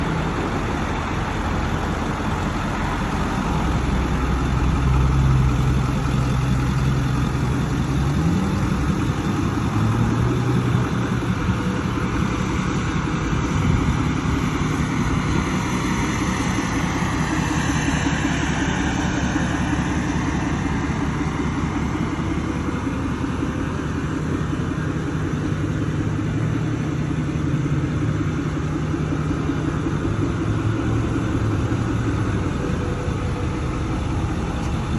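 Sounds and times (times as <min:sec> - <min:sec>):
engine humming: 0:00.0 - 0:34.9.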